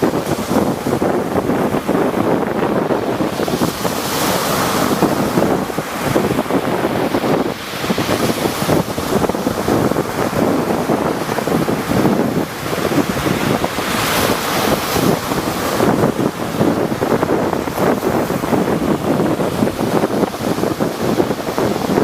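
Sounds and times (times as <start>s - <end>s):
rough sea waves breaking: 0.0s - 22.0s
wind buffeting microphone: 0.0s - 22.0s.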